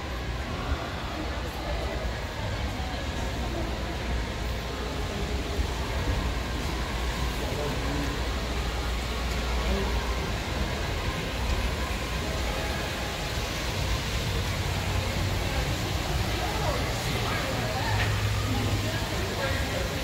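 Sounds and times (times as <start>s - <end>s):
faint distant voices: 0.0s - 20.0s
low rumble and hiss: 0.0s - 20.0s.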